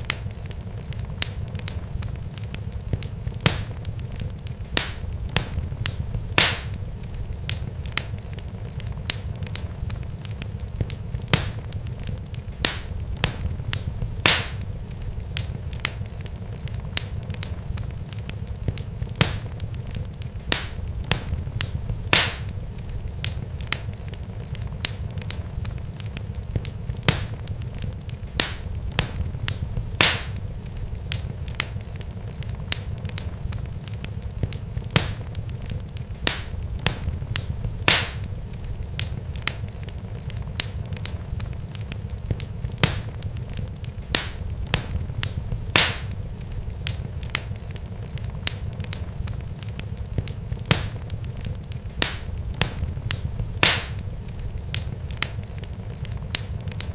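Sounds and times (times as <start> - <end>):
sharp crackles and pops: 0.0 - 56.9.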